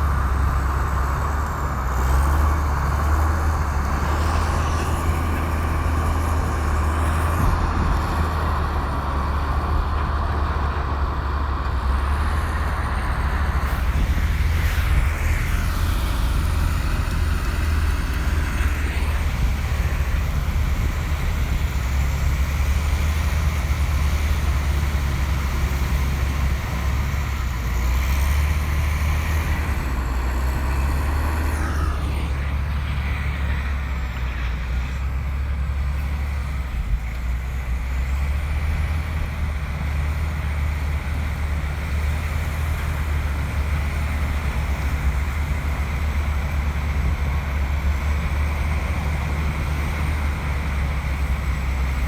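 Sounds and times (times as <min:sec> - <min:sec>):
bulldozer diesel engine rumbling: 0:00.0 - 0:52.0.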